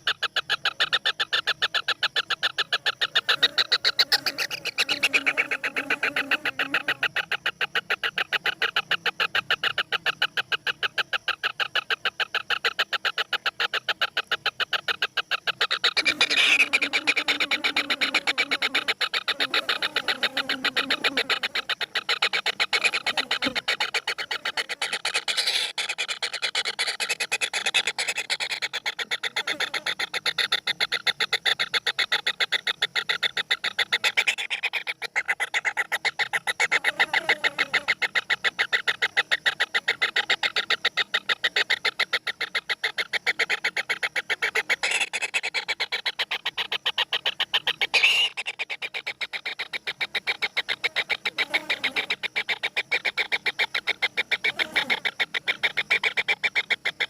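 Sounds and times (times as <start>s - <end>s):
birds calling: 0.0s - 57.0s.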